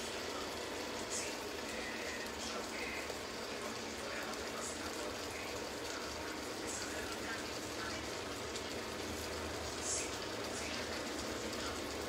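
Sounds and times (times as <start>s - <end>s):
stew simmering and bubbling: 0.0s - 12.0s.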